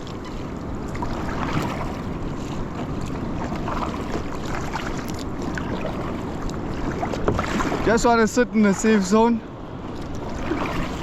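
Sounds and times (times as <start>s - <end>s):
water washing and splashing: 0.0s - 11.0s.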